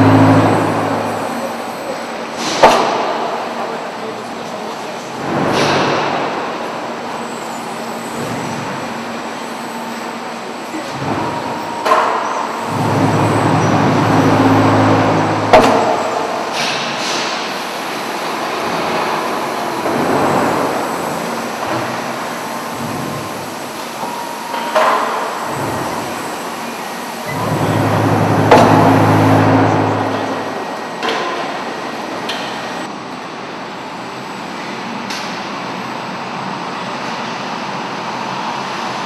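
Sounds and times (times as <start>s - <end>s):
conveyor mechanical rumble: 0.0s - 39.0s.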